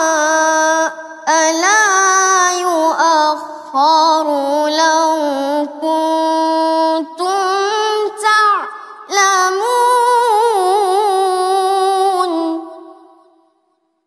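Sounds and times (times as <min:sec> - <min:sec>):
boy chanting melodic recitation: 0:00.0 - 0:13.1.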